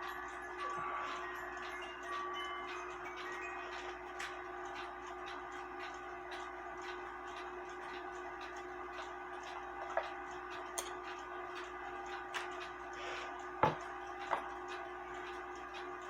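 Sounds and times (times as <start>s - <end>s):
clock ticking: 0.0s - 16.0s
knocks and clicks from clock movement: 1.6s - 16.0s.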